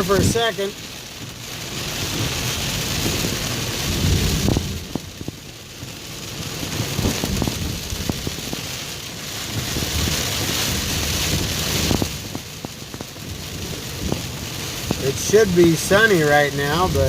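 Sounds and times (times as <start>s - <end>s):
heavy rain on a car: 0.0s - 17.0s
sharp raindrop hits: 0.0s - 17.0s.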